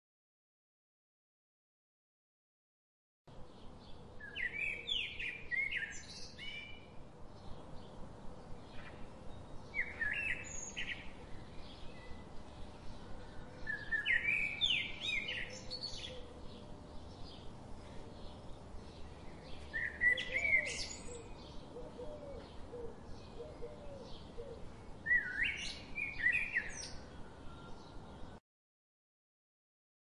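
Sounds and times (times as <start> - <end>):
birds chirping: 3.3 - 28.4.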